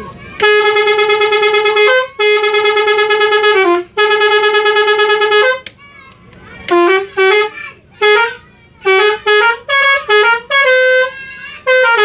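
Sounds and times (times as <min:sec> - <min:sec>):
multi-tone bus horn tune: 0:00.4 - 0:05.8, 0:06.7 - 0:12.0.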